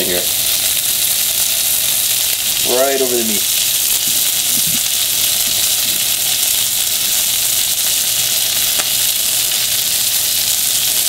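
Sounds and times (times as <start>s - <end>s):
fish fillets sizzling in a pan: 0.0s - 11.0s.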